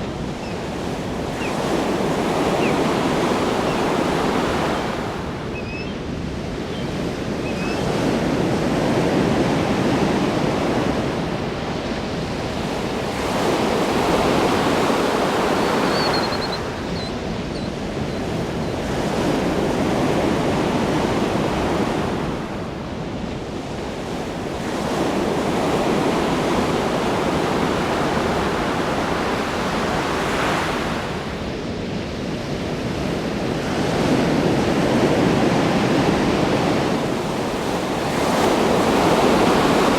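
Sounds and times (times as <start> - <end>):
ocean waves breaking: 0.0 - 32.2, 32.8 - 39.9.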